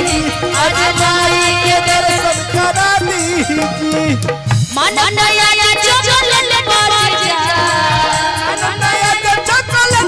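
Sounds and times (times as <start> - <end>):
folk band playing live: 0.0 - 10.0
woman singing into microphone: 0.0 - 10.0.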